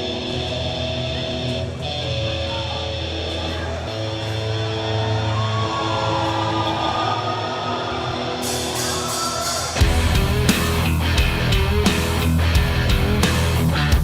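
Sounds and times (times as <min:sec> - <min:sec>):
rock guitar chords: 0:00.0 - 0:05.7, 0:07.9 - 0:14.0.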